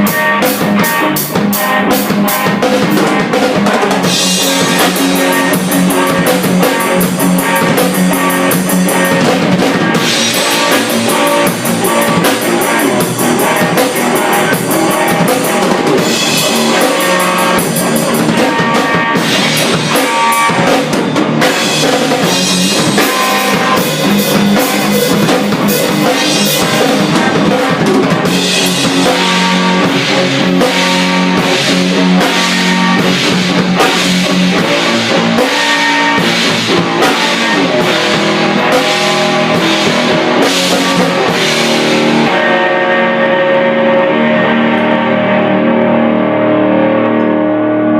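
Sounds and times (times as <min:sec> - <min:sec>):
drum kit beat: 0:00.0 - 0:44.9
electric guitar rock jam: 0:00.0 - 0:47.9.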